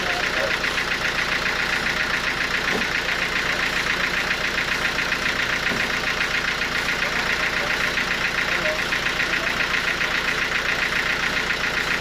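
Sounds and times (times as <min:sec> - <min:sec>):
sawmill machinery pulsing: 0:00.0 - 0:12.0.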